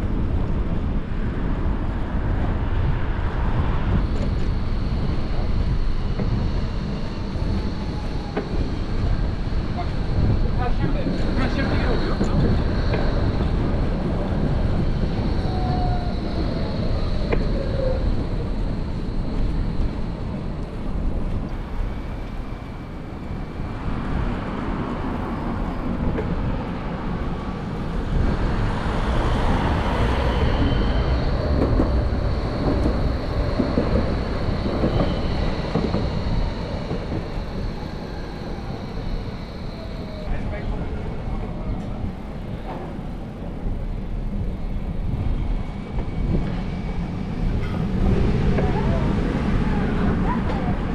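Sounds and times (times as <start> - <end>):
bicycle rumbling on street: 0.0 - 50.9
road and traffic noise: 0.0 - 50.9.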